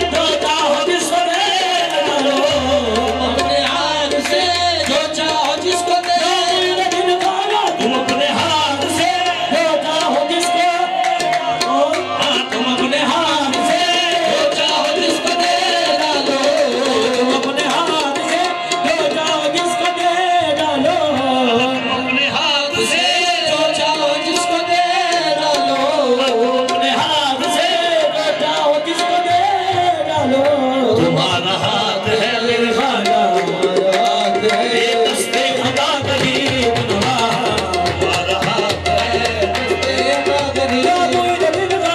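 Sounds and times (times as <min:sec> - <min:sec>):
harmonium held notes: 0:00.0 - 0:41.9
people singing: 0:00.0 - 0:41.9
tabla drumming: 0:00.0 - 0:41.9.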